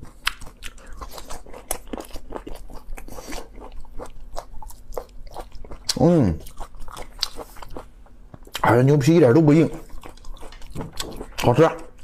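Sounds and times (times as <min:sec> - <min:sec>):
person chewing: 0:00.0 - 0:08.8, 0:09.6 - 0:12.0.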